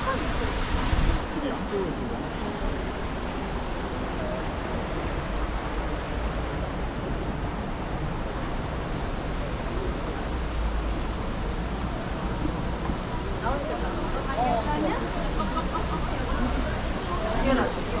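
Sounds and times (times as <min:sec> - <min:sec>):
faint voices of passers-by: 0:00.0 - 0:18.0
rushing outdoor noise with rumble: 0:00.0 - 0:18.0.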